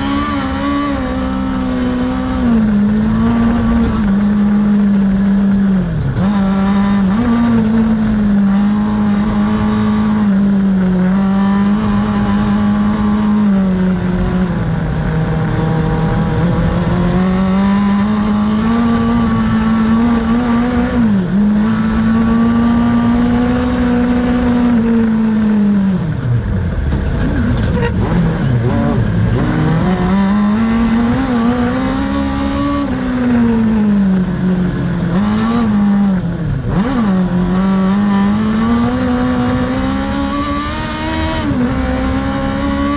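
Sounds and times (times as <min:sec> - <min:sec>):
buggy engine at high revs: 0:00.0 - 0:42.9.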